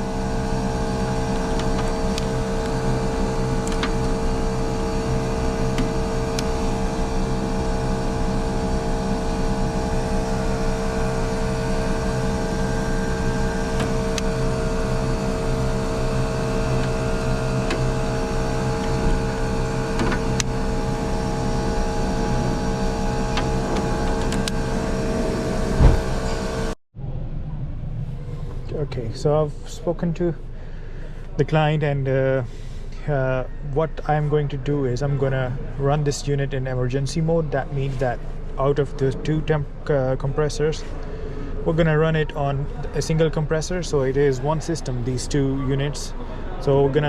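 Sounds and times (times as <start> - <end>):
air conditioning unit humming: 0.0 - 47.0.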